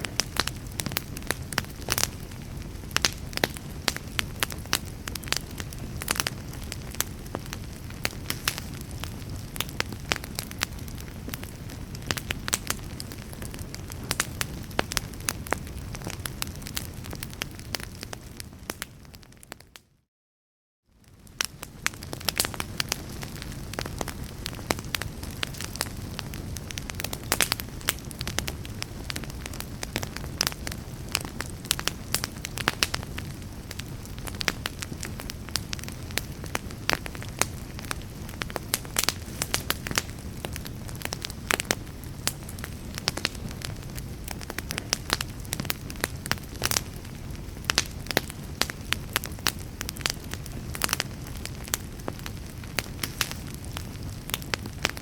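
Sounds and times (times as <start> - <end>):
logs crackling and popping: 0.0 - 19.6, 21.0 - 55.0
low rumble of flames: 0.0 - 19.7, 20.9 - 55.0.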